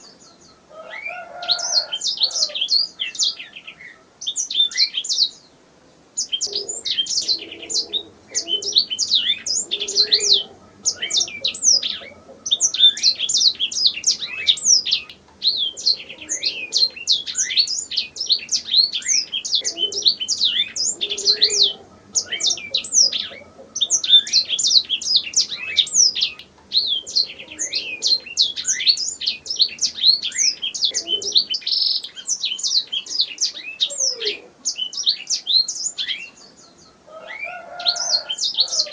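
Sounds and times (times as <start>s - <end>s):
canary singing trills: 0.0s - 5.5s, 6.2s - 38.9s.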